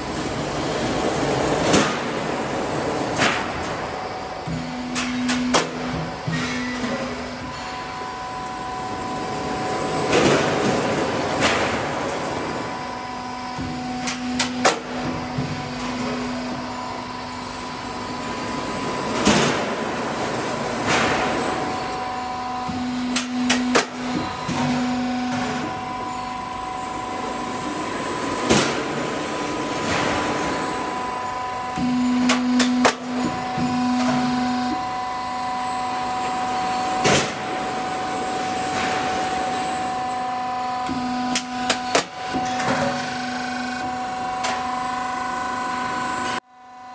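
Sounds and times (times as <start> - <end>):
roll forming machine running: 0.0 - 46.4
low mechanical hum: 0.0 - 46.9.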